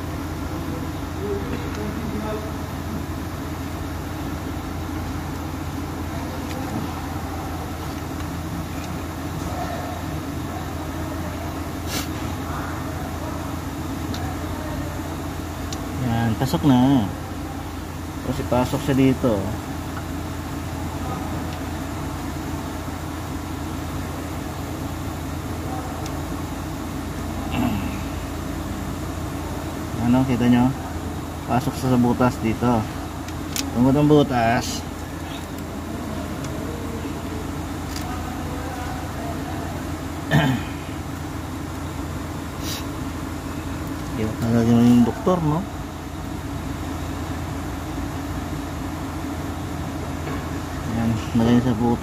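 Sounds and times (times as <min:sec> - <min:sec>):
low mechanical drone: 0:00.0 - 0:52.0.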